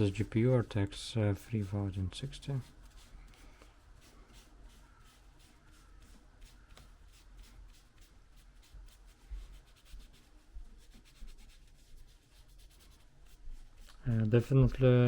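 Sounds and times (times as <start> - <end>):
wipe rubbing strokes: 0.0 - 14.8.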